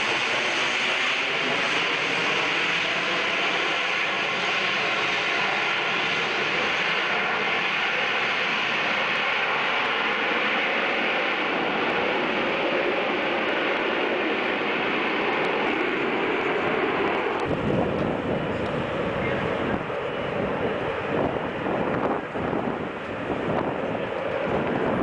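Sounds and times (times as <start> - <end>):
jet engine roaring overhead: 0.0 - 25.0.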